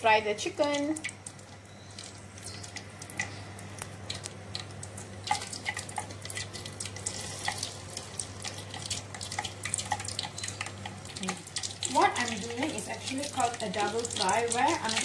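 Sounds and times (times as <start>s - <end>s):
hot oil sizzling and popping: 0.0s - 15.0s.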